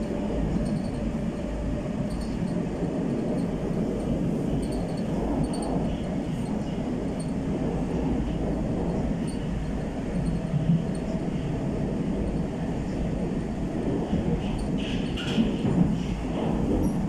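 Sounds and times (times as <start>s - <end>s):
train rumbling in a tunnel: 0.0s - 17.0s.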